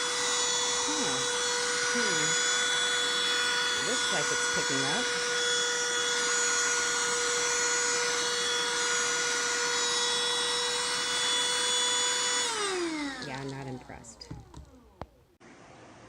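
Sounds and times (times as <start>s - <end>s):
handheld vacuum motor whine: 0.0s - 15.6s
motor spinning down: 0.0s - 15.9s.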